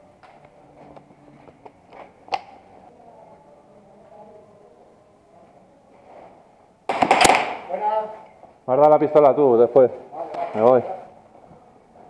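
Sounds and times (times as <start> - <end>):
faint distant voices: 0.0 - 12.0
low room noise: 0.0 - 12.0.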